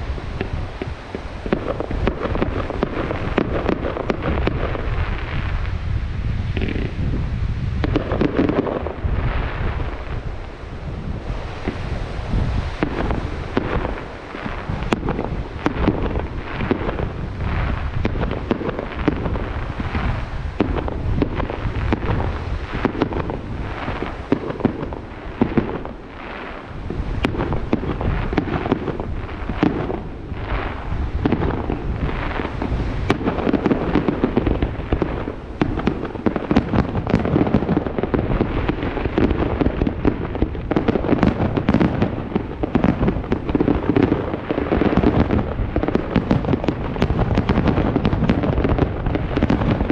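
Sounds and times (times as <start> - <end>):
fireworks bursting and crackling: 0.0 - 49.9.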